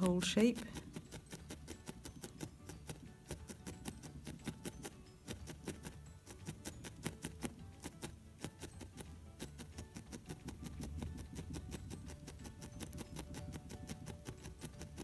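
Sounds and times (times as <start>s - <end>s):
felting needle ticks: 0.0s - 15.0s.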